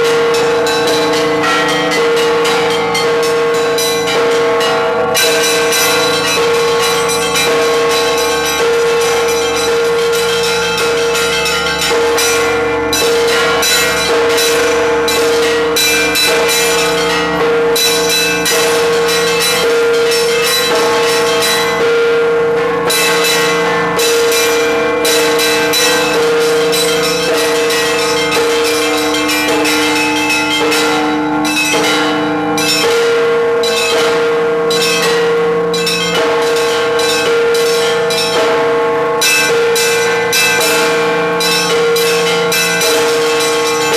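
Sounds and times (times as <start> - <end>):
large bells ringing: 0.0 - 43.9
small high bells striking: 0.0 - 43.9.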